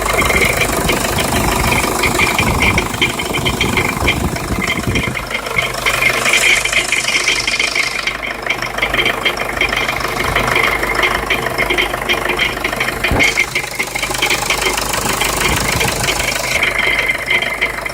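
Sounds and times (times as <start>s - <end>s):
diesel engine clattering: 0.0s - 17.9s.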